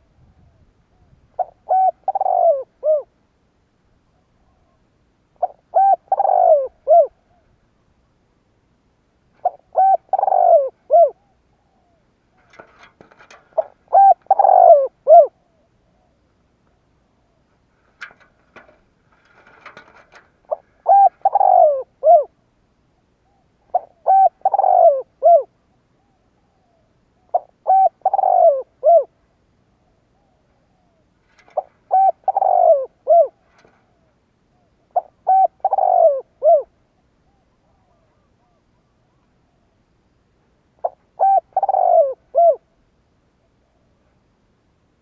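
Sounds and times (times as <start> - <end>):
dove cooing: 0.0 - 3.2, 4.1 - 7.5, 9.4 - 16.2, 17.0 - 22.4, 23.2 - 39.8, 40.8 - 42.7.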